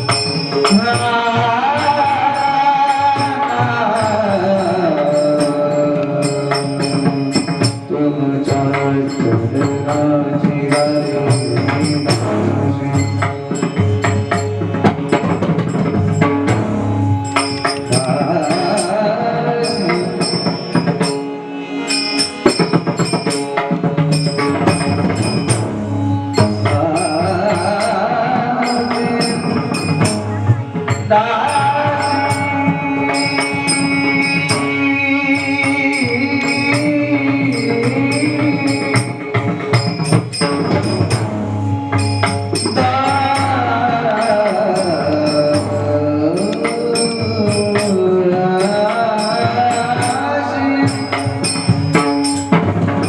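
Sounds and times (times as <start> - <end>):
hand drum: 0.0 - 53.0
small hand cymbals: 0.0 - 53.0
wavering held melody: 0.0 - 53.0.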